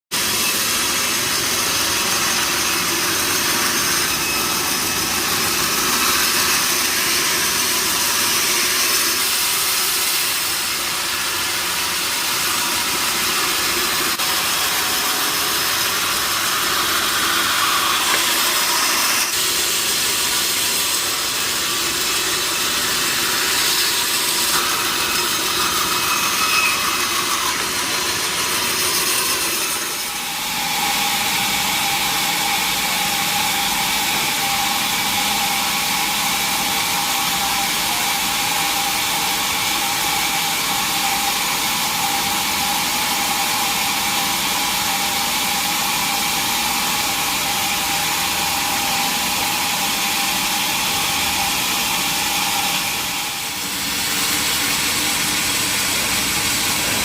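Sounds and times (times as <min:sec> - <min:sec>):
sawmill saw hissing: 0:00.1 - 0:57.0.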